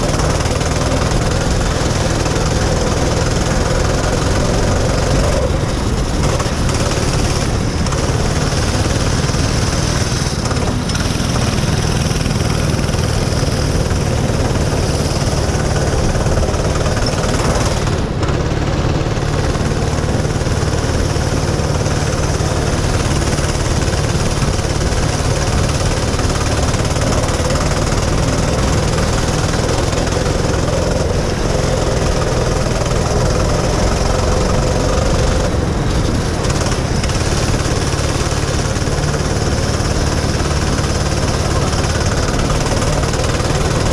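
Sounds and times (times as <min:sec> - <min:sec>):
go-kart engine running: 0:00.0 - 0:43.9.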